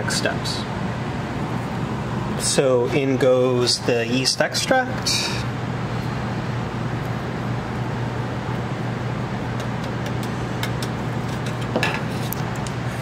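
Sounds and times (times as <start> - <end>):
ventilation rush with hum: 0.0 - 13.0.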